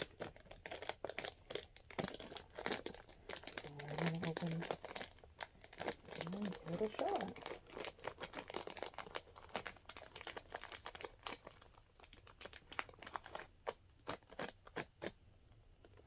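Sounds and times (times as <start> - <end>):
snack packaging crinkling: 0.0 - 16.0.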